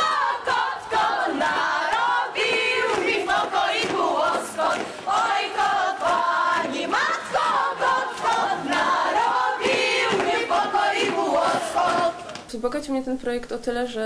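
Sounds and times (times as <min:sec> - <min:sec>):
choir singing: 0:00.0 - 0:12.4.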